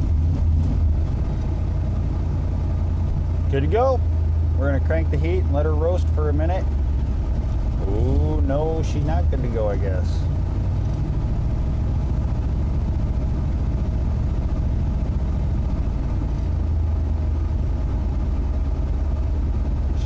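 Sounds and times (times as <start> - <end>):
truck engine running rough: 0.0 - 20.0.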